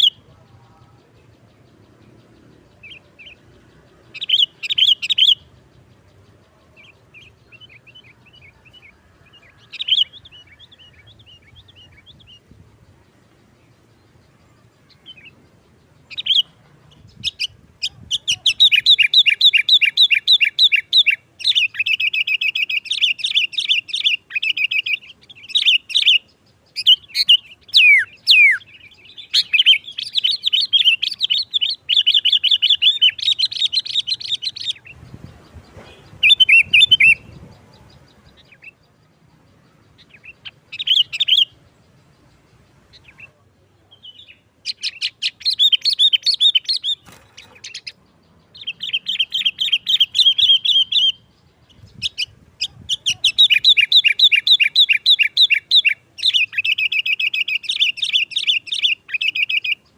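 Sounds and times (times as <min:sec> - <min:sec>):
bulbul singing: 0:00.0 - 0:59.9.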